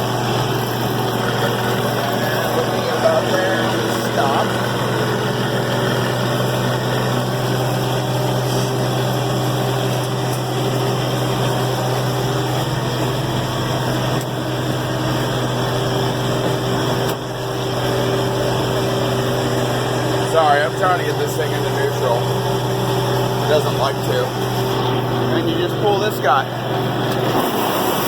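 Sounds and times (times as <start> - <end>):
combine engine humming: 0.0 - 28.0.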